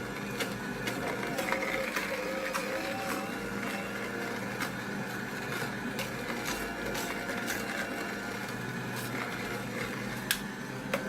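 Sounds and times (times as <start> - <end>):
juicer motor hum: 0.0 - 11.0.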